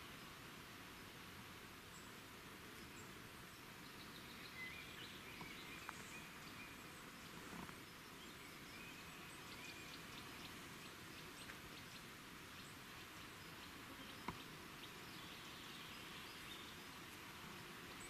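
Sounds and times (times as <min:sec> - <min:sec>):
faint outdoor background noise: 0:00.0 - 0:18.0.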